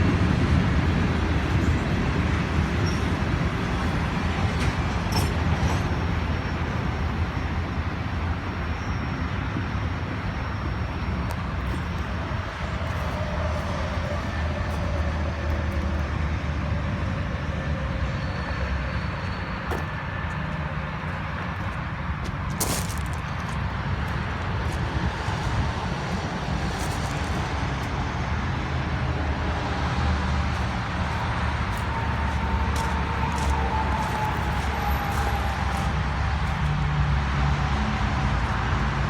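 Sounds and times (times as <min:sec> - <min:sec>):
train rumbling on tracks: 0:00.0 - 0:39.0.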